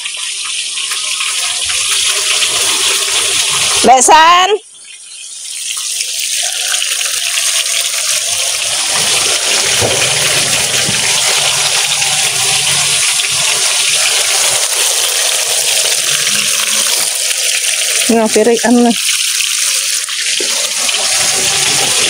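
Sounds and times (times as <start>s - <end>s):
food deep-frying in hot oil: 0.0s - 22.0s.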